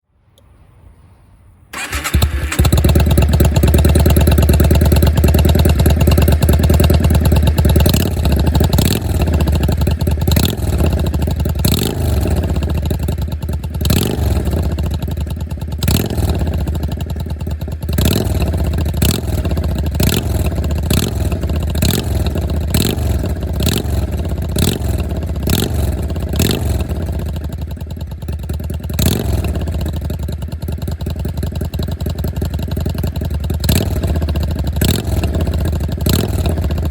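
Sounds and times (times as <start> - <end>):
motorcycle engine revving: 1.7 - 36.9.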